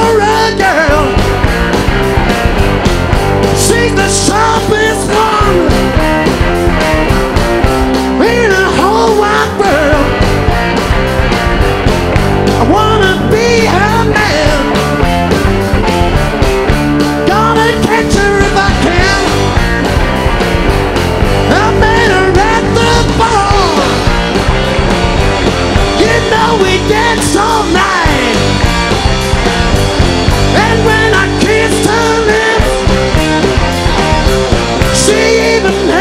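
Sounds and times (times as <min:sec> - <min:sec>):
rock band playing live: 0:00.0 - 0:36.0.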